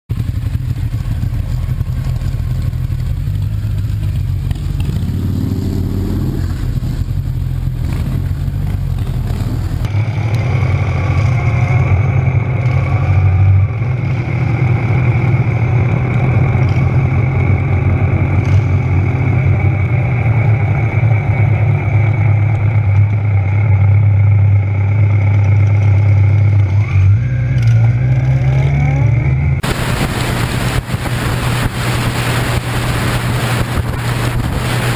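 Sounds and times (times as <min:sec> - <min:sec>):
motorcycle engines idling: 0:00.1 - 0:28.5, 0:29.5 - 0:34.9
steady high whine: 0:00.6 - 0:34.9.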